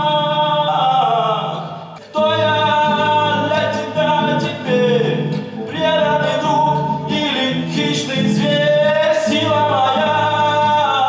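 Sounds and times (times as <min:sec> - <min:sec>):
song with singing: 0:00.0 - 0:11.0.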